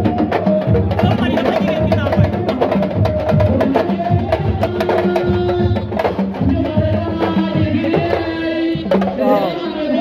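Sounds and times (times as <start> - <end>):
fast drumming: 0.0 - 9.8.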